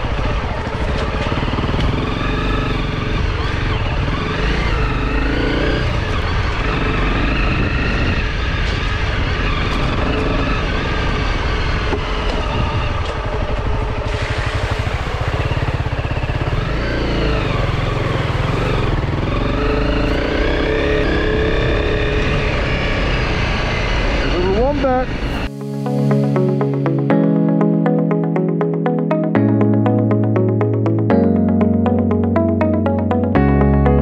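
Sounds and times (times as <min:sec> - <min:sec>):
motorcycle engine revving: 0:00.0 - 0:27.3.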